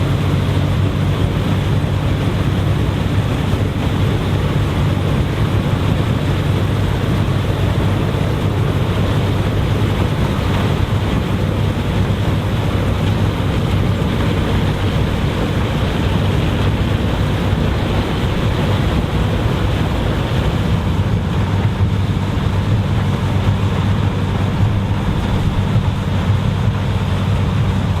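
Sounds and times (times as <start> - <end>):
combine harvester running: 0.0 - 28.0.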